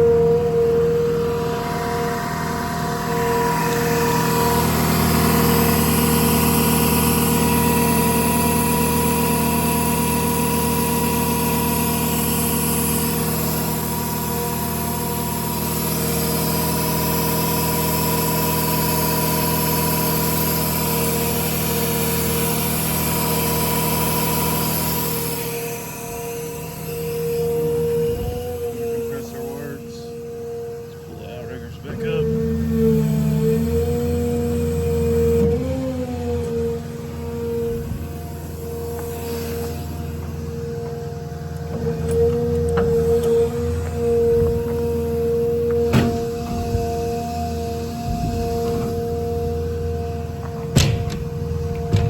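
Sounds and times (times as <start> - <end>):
air compressor running: 0.0 - 52.0
diesel engine whining: 0.0 - 52.0.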